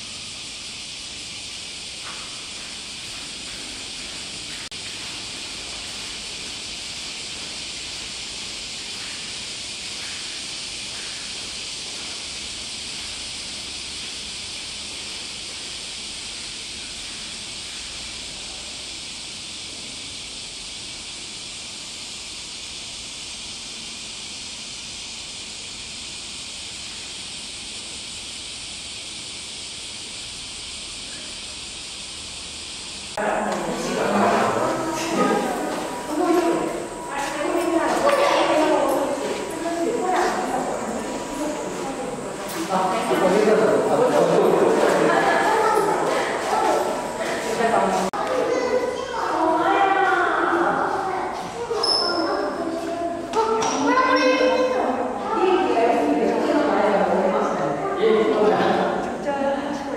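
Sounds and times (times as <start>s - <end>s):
high-pitched background hiss: 0.0s - 59.9s.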